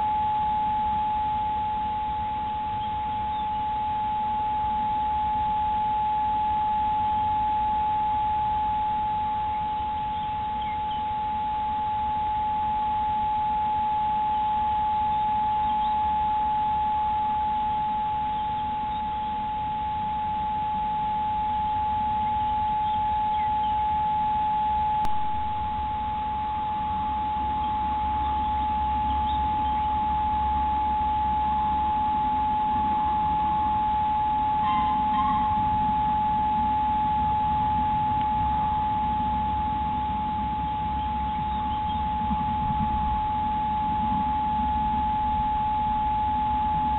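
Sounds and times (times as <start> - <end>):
high electronic whine: 0.0 - 46.9.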